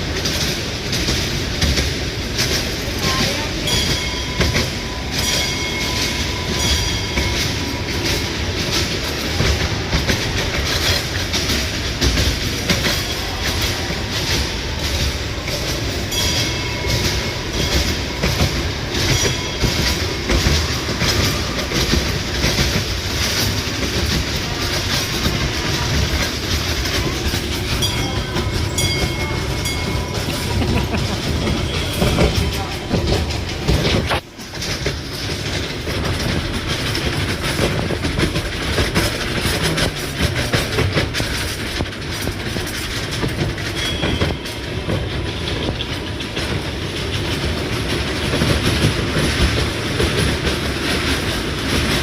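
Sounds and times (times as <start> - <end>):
train wheels clickety-clack: 0.0 - 52.0.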